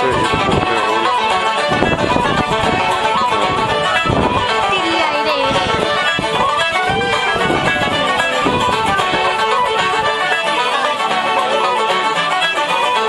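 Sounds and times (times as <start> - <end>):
button accordion: 0.0 - 13.0
fiddles: 0.0 - 13.0
flutes: 0.0 - 13.0
guitars: 0.0 - 13.0
tenor banjo: 0.0 - 13.0.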